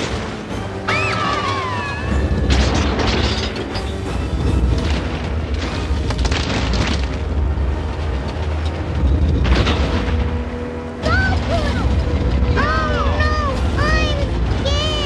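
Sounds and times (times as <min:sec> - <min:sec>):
dramatic music score: 0:00.0 - 0:15.0.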